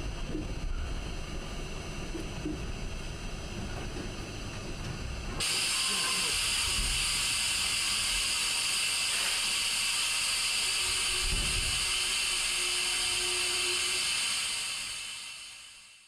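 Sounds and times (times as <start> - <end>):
train running heard from cab: 0.0 - 16.0.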